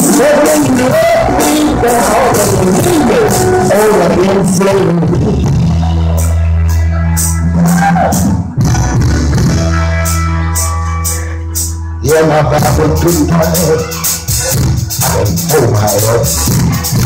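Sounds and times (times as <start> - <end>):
amplified cigar box guitar: 0.0 - 17.0
electric bass: 0.0 - 17.0.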